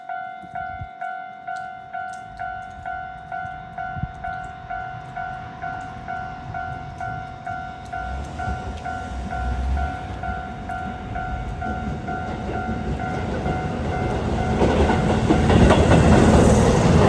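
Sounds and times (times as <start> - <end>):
level-crossing warning bell: 0.0 - 17.0
train rumble: 2.0 - 17.0.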